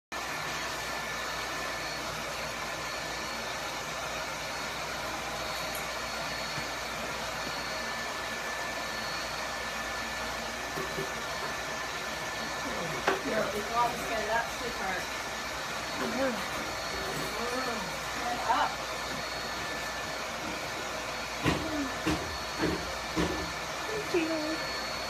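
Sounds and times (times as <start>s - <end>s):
blower running: 0.2s - 25.0s.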